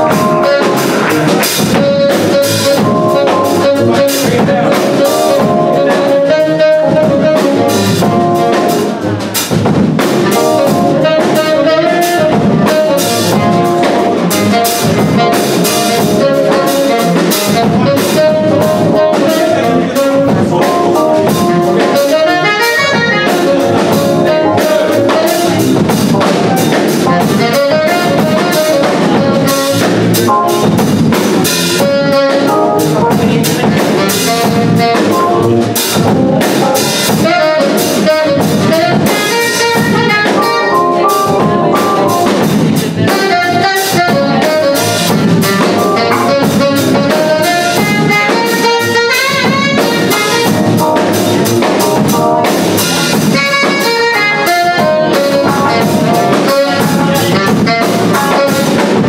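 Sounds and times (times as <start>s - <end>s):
jazz big band playing: 0.0s - 59.0s.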